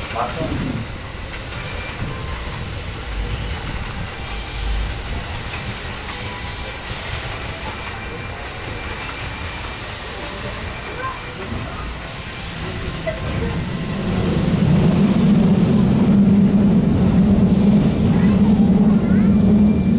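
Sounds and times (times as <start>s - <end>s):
steam hiss: 0.0s - 19.9s
wheels rumbling on rail: 0.0s - 19.9s.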